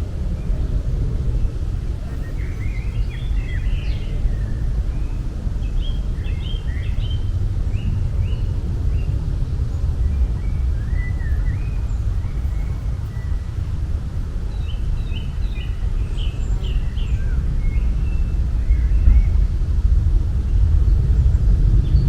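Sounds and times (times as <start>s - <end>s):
low rumble: 0.0s - 22.0s
songbirds chirping: 0.0s - 22.0s.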